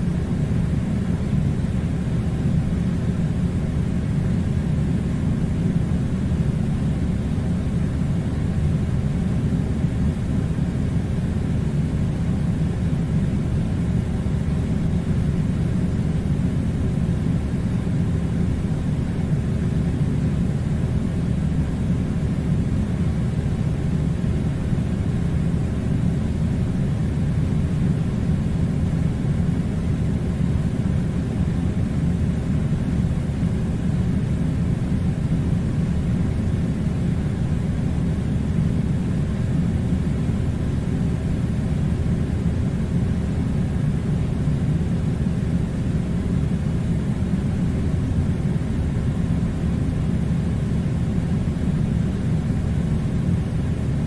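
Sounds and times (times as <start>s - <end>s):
air conditioner rumbling: 0.0s - 54.0s
faint hum: 0.0s - 54.0s.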